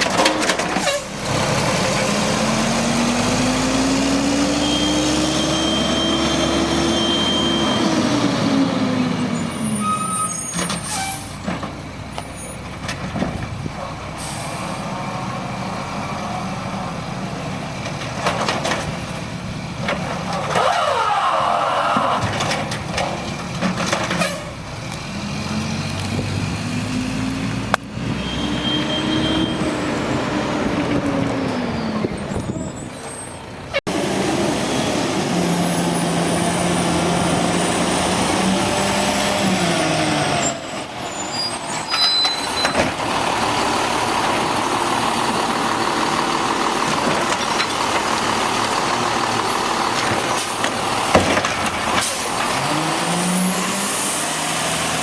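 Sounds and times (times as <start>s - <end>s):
garbage truck engines revving: 0.0s - 55.0s.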